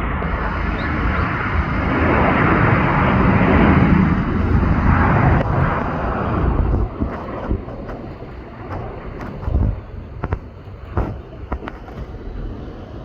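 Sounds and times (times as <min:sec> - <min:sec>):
jet airliner passing: 0:00.0 - 0:13.0.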